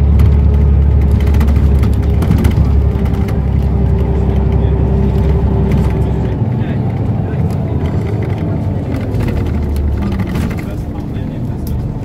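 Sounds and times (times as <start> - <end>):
bodywork rattles: 0.0 - 12.0
diesel engine drone: 0.0 - 12.0
steady whine: 0.0 - 12.0.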